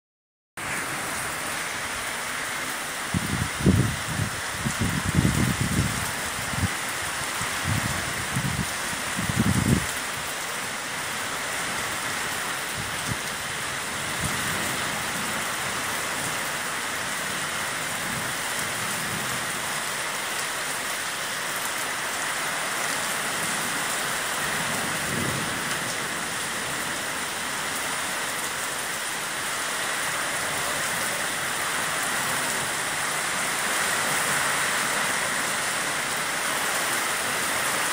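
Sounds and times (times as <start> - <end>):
heavy rain on a street: 0.6 - 37.9.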